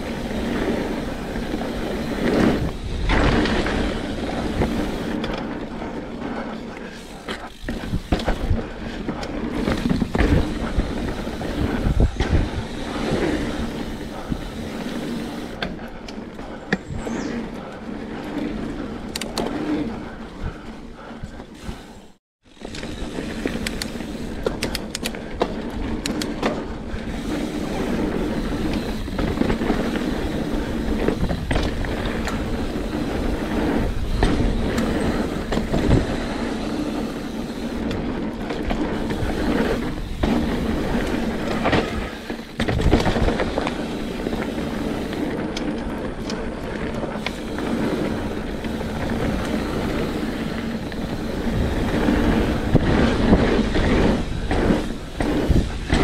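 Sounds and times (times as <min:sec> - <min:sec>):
bike clicks and rattles: 0:00.0 - 0:56.0
tyres rumbling on dirt trail: 0:00.0 - 0:56.0.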